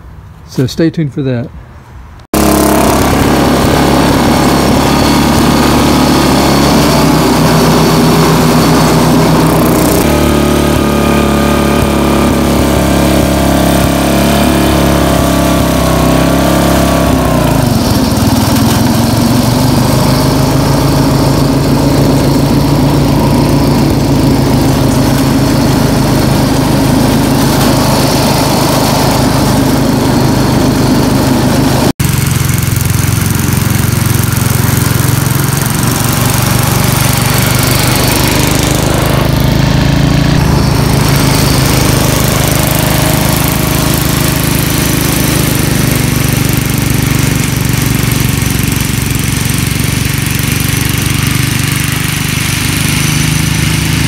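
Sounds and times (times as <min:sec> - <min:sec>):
riding mower engine running: 0:02.2 - 0:54.0.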